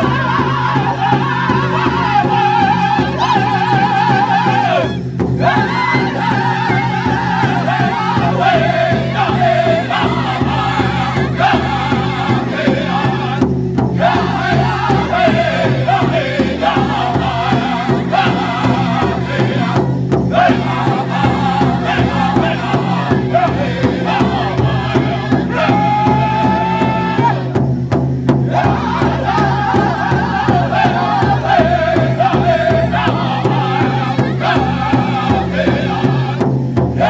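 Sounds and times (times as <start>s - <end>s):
singers singing in unison: 0.0s - 27.7s, 28.3s - 37.0s
steady drum beat: 0.0s - 37.0s.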